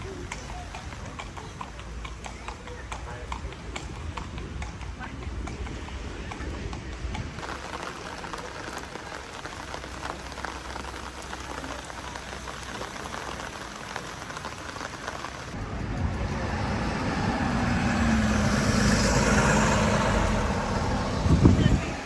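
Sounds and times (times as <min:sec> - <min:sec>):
crackling pattering noise: 0:00.0 - 0:22.0.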